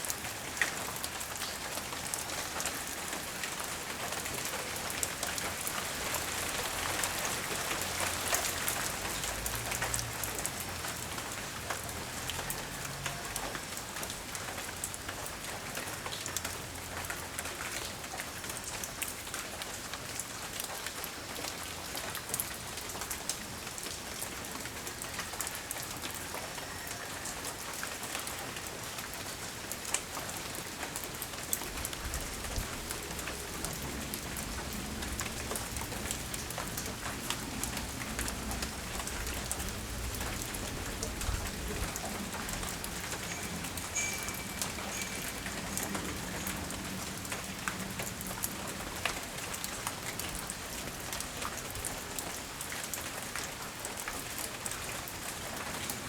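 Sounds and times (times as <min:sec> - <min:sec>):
raindrops ticking close by: 0:00.0 - 0:56.0.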